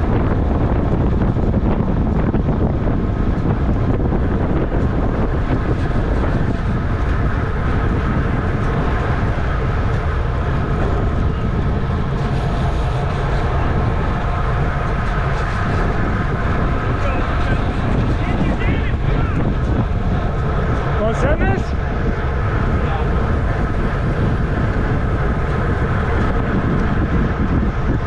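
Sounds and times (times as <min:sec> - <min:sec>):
faint steady whine: 0:00.0 - 0:28.0
wind rushing over microphone: 0:00.0 - 0:28.0.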